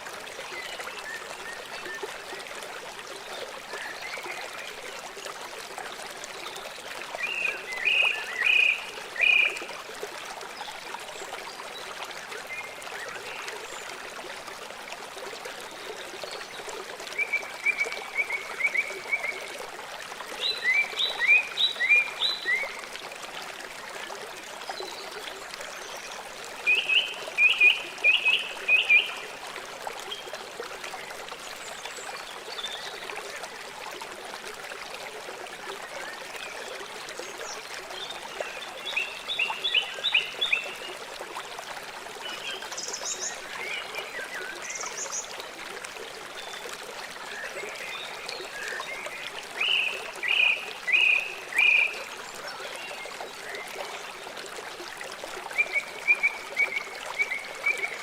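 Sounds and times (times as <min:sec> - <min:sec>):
river running: 0:00.0 - 0:58.0.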